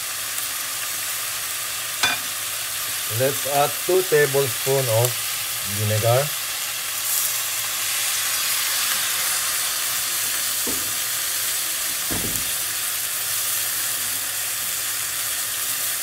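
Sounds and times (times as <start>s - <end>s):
pork sizzling in a pot: 0.0s - 16.0s.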